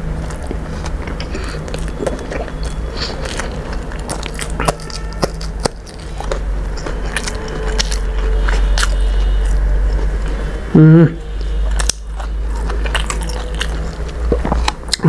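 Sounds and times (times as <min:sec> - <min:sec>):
chewing food: 0:00.0 - 0:10.6, 0:11.3 - 0:15.0
steady low hum: 0:00.0 - 0:15.0.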